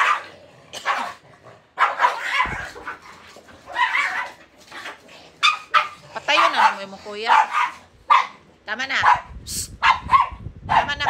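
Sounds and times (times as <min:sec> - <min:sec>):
small dogs barking: 0:00.0 - 0:11.0.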